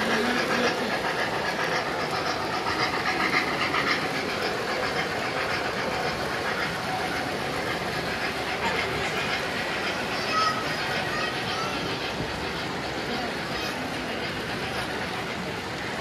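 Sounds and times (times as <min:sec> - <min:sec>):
model train wheels rattling: 0:00.0 - 0:16.0.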